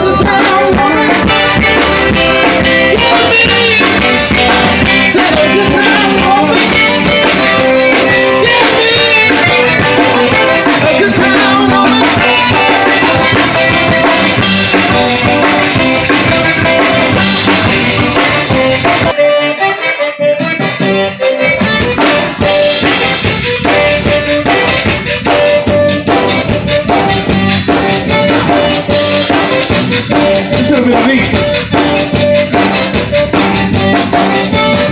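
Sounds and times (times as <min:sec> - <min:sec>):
accordion: 0:00.0 - 0:34.9
bass: 0:00.0 - 0:34.9
drum kit steady beat: 0:00.0 - 0:34.9.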